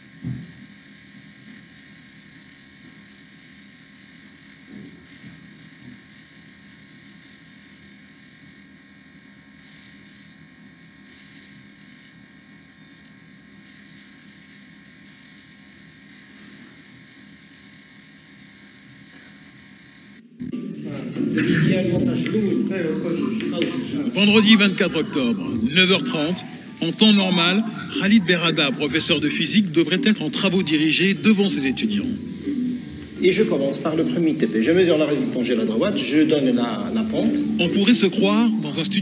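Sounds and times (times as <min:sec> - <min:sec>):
faint hum: 0:00.0 - 0:39.0
steady background hiss: 0:00.0 - 0:39.0.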